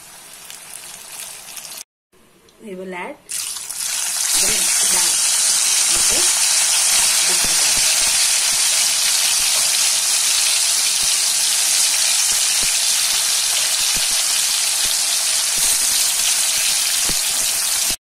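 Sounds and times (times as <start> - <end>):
deep-frying in hot oil sizzling: 0.0 - 1.8, 3.3 - 18.0.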